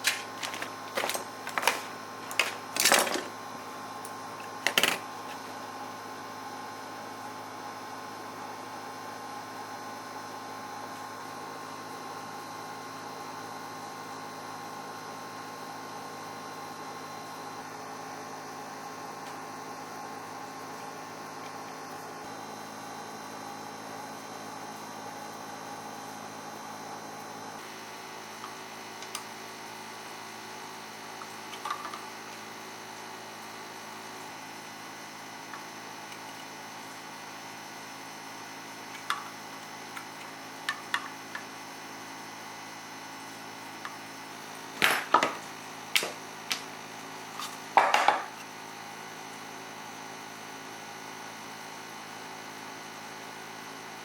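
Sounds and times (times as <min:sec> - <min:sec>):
steady electrical hum: 0:00.0 - 0:11.4, 0:17.4 - 0:50.4.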